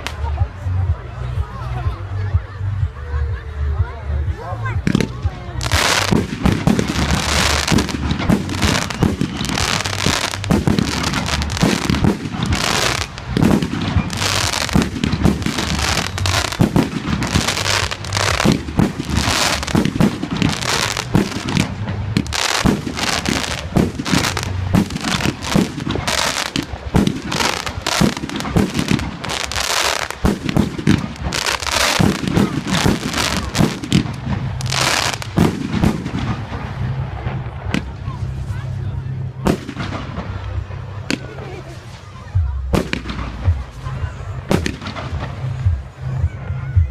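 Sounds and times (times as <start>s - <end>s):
fireworks bangs and crackles: 4.7s - 46.9s.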